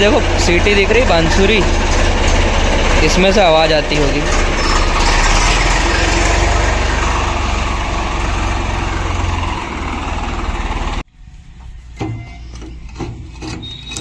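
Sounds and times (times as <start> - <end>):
engine idling with loud hiss: 0.0 - 12.8.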